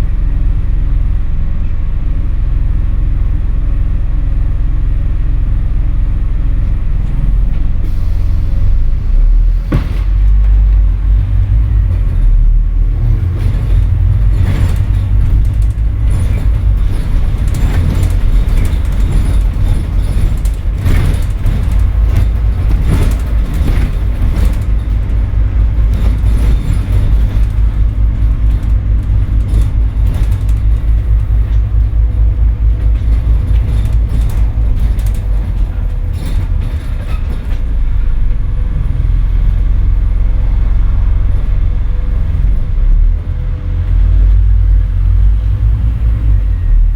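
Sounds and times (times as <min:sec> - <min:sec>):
bus body rattling and knocking: 0:00.0 - 0:46.9
bus diesel engine drone: 0:00.0 - 0:46.9.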